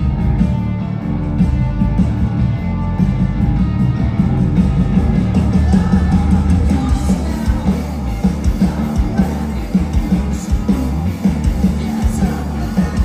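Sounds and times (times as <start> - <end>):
driving drum beat: 0.0 - 13.0
rock band playing live: 0.0 - 13.0.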